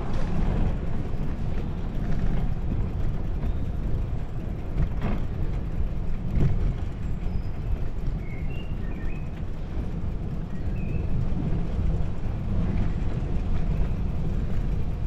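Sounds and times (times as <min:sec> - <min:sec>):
bicycle tyres rolling: 0:00.0 - 0:15.0.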